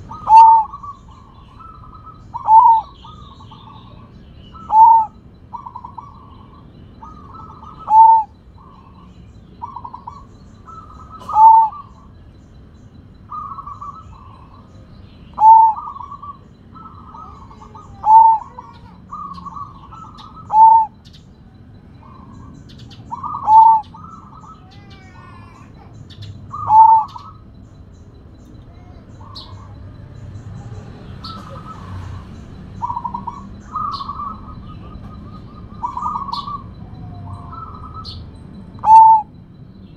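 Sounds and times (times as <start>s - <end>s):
dove cooing: 0.0s - 39.6s.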